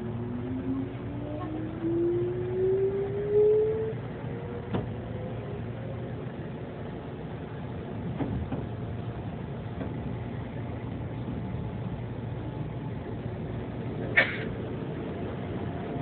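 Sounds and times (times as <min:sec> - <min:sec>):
train car low hum: 0:00.0 - 0:16.0.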